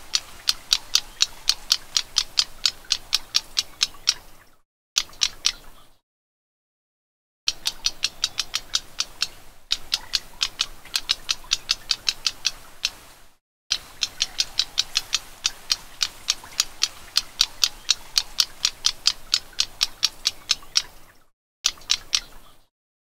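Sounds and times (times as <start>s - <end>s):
bird ticking calls: 0.0s - 6.0s, 7.5s - 22.7s.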